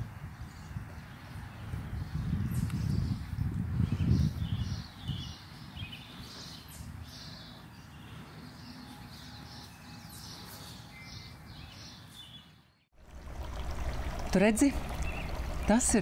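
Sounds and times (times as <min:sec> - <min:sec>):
outdoor background noise: 0:00.0 - 0:16.0
small birds chirping: 0:00.4 - 0:12.9, 0:13.7 - 0:16.0.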